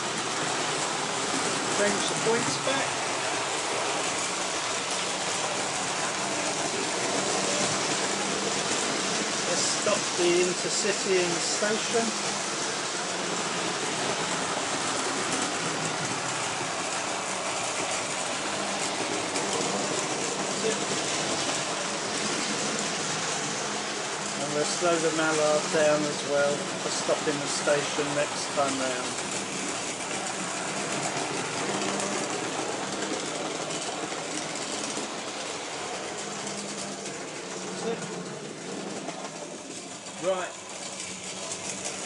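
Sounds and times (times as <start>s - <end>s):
model train motors whirring: 0.0s - 42.0s
wheels rolling on rails: 0.0s - 42.0s.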